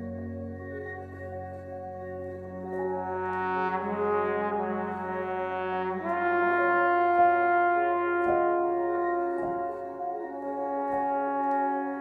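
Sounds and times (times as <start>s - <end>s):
slow sustained chords music: 0.0s - 12.0s.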